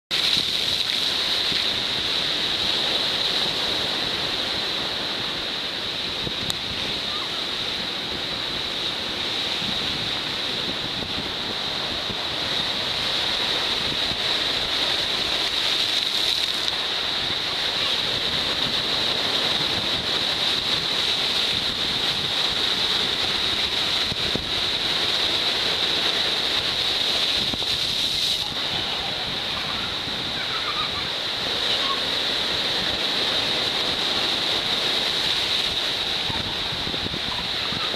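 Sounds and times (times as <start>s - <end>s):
rough surf breaking on rocks: 0.1s - 37.9s.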